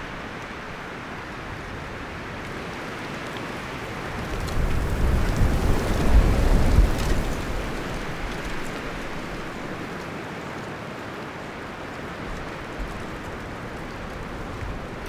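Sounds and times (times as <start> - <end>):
wind rustling forest trees: 0.0 - 15.0.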